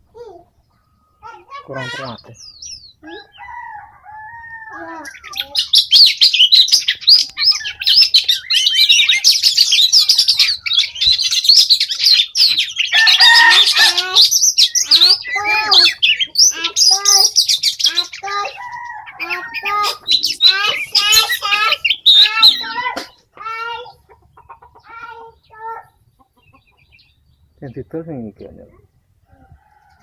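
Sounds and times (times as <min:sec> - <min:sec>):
birds singing fast high chirps: 0:00.0 - 0:30.0
lower-pitched curved bird calls: 0:00.2 - 0:27.8.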